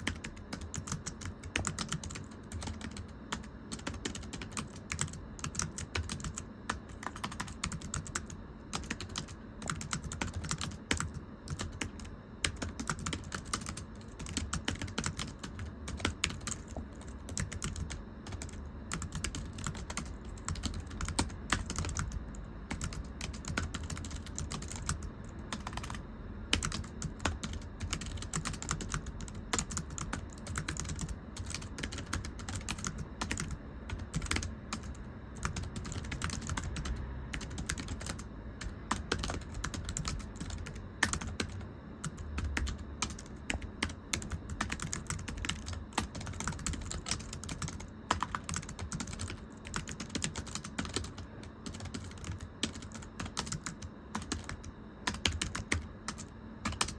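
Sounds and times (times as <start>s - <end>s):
typing on thin keyboard: 0.0s - 56.9s.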